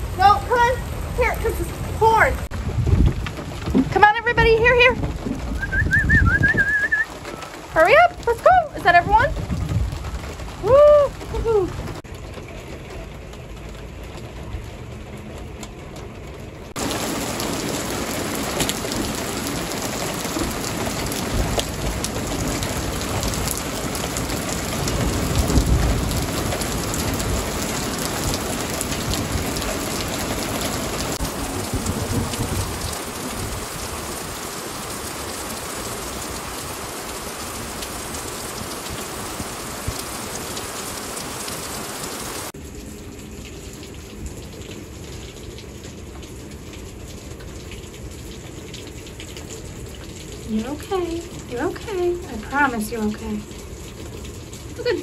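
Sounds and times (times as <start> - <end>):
heavy rain pouring: 0.0 - 55.0
thunder rumbling: 0.0 - 55.0.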